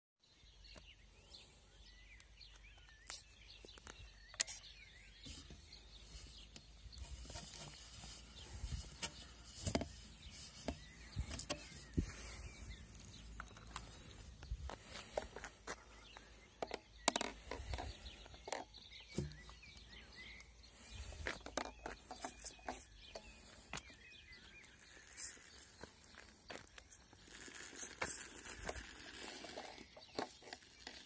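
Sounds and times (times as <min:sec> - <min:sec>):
faint bird chirps: 0:00.2 - 0:31.0.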